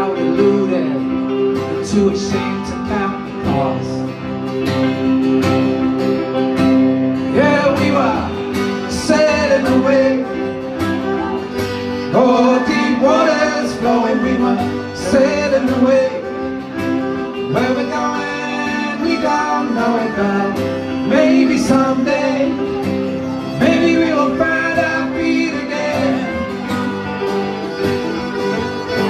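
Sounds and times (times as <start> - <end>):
acoustic guitars strumming: 0.0 - 29.0
fiddle melody: 0.0 - 29.0.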